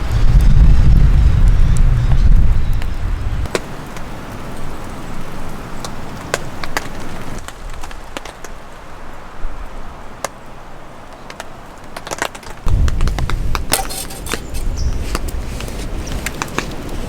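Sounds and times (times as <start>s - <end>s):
wind rumbling on microphone: 0.0s - 10.9s, 11.6s - 17.0s
raindrops tapping: 0.0s - 17.0s.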